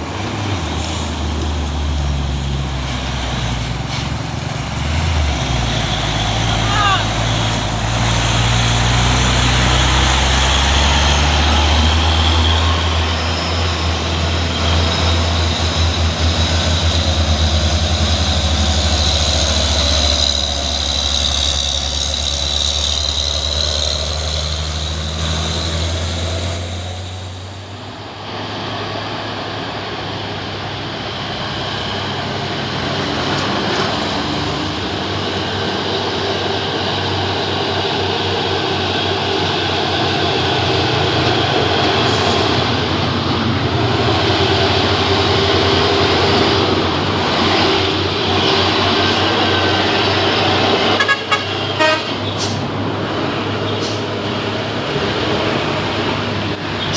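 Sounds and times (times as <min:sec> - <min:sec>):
truck diesel engine under load: 0:00.0 - 0:56.9.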